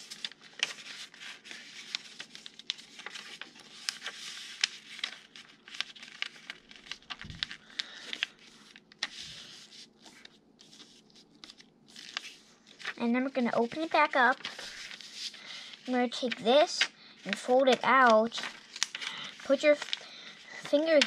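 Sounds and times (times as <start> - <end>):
paper folding and crinkling: 0.0 - 21.0.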